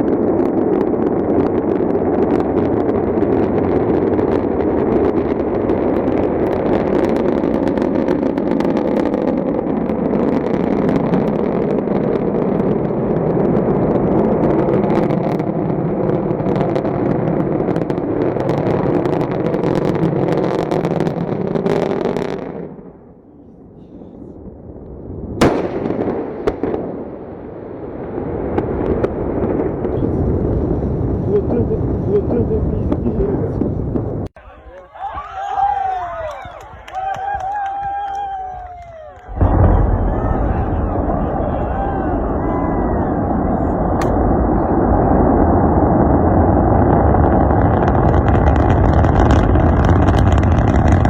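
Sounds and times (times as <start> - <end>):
rocket rumbling and crackling: 0.0 - 51.0.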